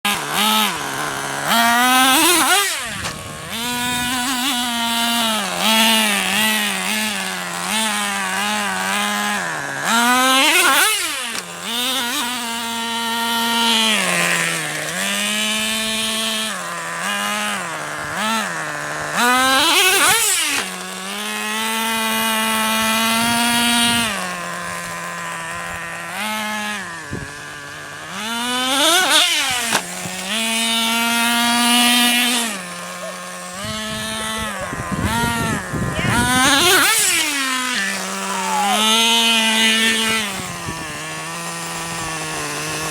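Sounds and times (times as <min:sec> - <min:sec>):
small engine revving: 0:00.0 - 0:42.9.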